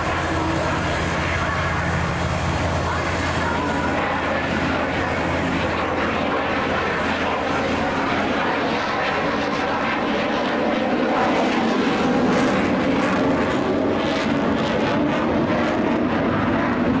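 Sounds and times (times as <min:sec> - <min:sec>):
aircraft engine noise: 0:00.0 - 0:17.0.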